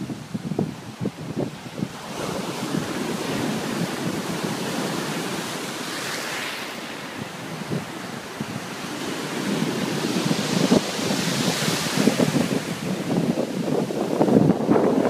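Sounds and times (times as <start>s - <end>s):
waves breaking and rushing: 0.0s - 15.0s
wind buffeting microphone: 0.0s - 15.0s.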